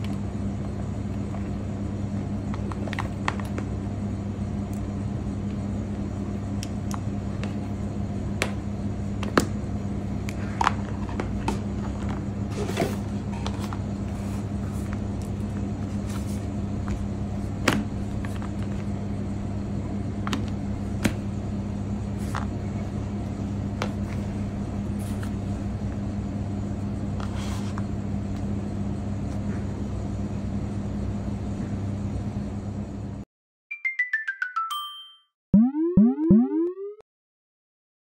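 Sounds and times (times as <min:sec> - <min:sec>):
steady low hum: 0:00.0 - 0:33.2.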